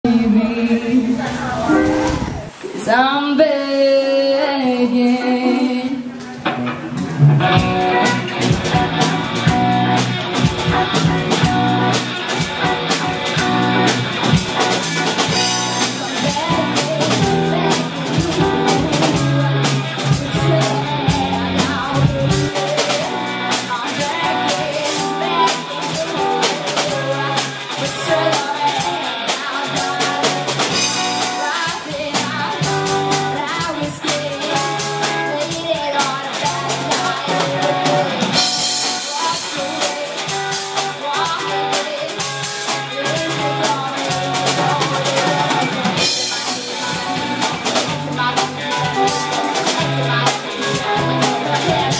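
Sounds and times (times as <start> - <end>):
woman singing lead: 0.0 - 6.4, 7.4 - 51.9
electric guitars: 0.1 - 51.9
bass guitar: 1.1 - 2.6, 6.4 - 51.9
drum kit: 1.1 - 2.8, 6.2 - 51.9.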